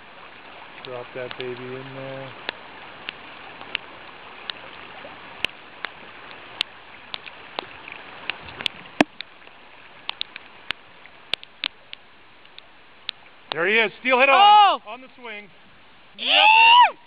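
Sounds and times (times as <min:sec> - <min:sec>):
raindrops ticking on microphone: 0:00.0 - 0:16.9
river flowing: 0:00.0 - 0:17.0.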